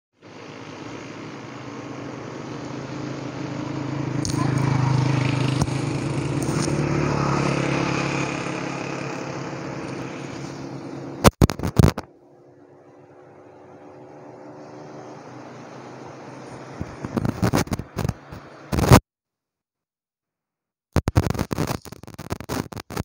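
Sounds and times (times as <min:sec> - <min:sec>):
engine hum: 0:00.2 - 0:19.0.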